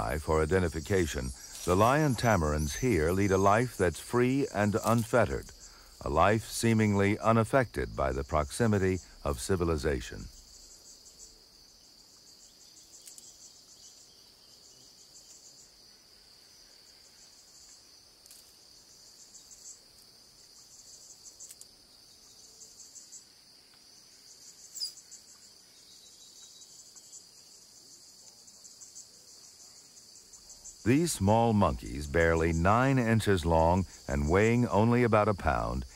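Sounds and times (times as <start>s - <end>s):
insects chirping: 0.0s - 35.9s.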